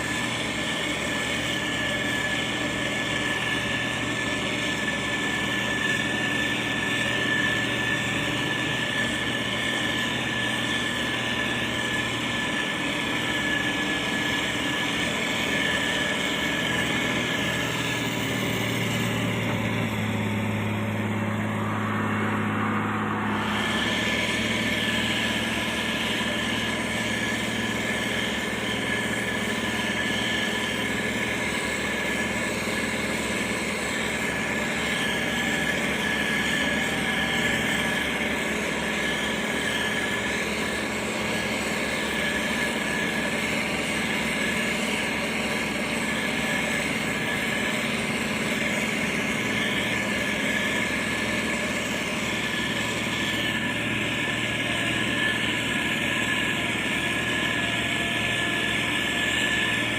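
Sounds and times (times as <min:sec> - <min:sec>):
diesel machinery running: 0:00.0 - 0:59.9
high whine: 0:00.0 - 0:59.9.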